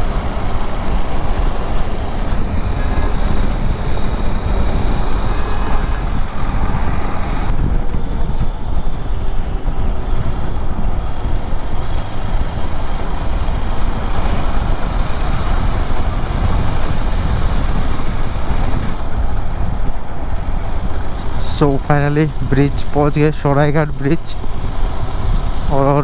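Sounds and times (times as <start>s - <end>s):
motorcycle road noise: 0.0s - 26.0s
wind rush on microphone: 0.0s - 26.0s.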